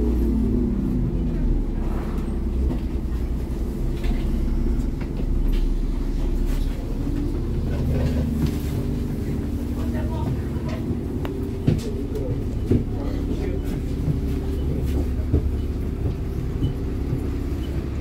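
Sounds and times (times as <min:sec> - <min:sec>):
bus diesel engine rumble: 0:00.0 - 0:18.0.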